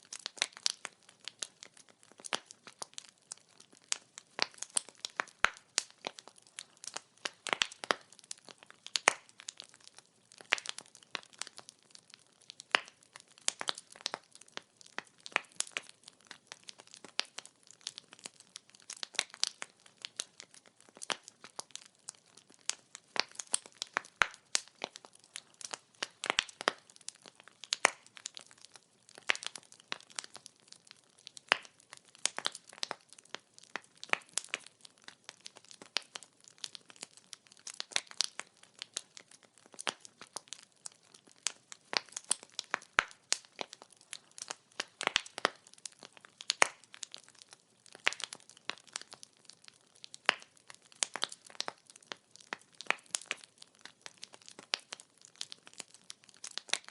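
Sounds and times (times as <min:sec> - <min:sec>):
firewood crackling and popping: 0:00.0 - 0:56.9.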